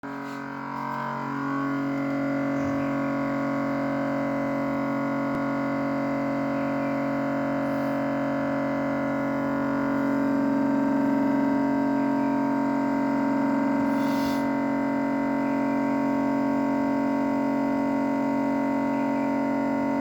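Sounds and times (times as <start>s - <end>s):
refrigerator compressor humming: 0.0s - 20.0s.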